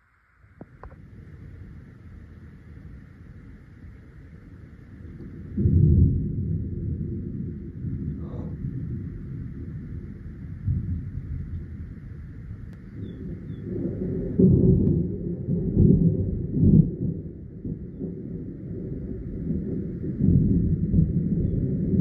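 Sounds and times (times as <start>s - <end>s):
thunder rolling and rumbling: 0.6s - 22.0s.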